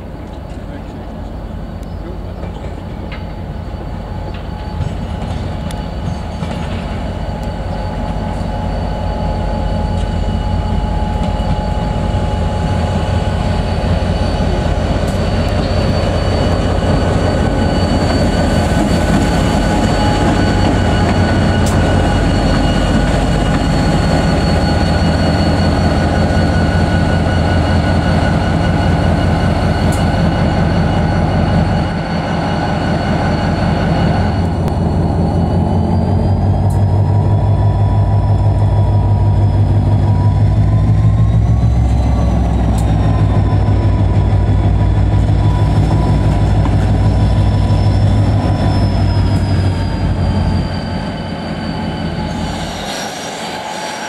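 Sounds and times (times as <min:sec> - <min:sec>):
diesel locomotive engine: 0:00.0 - 0:54.0
steady high whine: 0:03.2 - 0:54.0.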